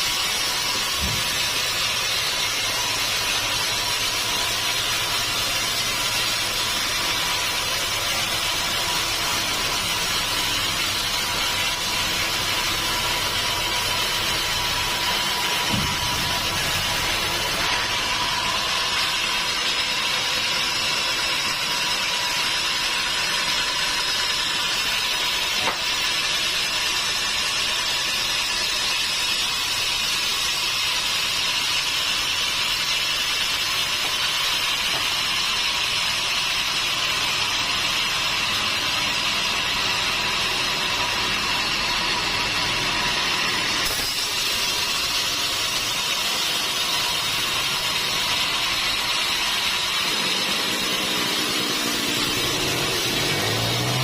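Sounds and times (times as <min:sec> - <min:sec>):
sawmill machinery whining: 0:00.0 - 0:54.0.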